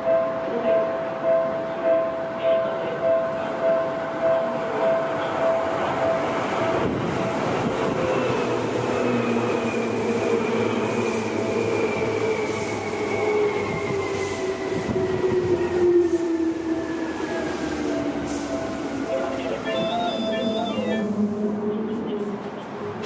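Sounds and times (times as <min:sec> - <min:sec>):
train wheel and track rumble: 0:00.0 - 0:23.0.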